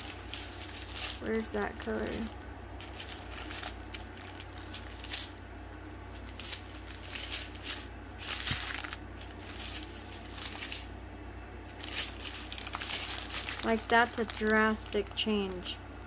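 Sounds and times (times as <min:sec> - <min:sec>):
plastic bags crinkling: 0:00.0 - 0:05.4, 0:06.1 - 0:11.0, 0:11.6 - 0:15.7
faint low hum: 0:00.0 - 0:16.0.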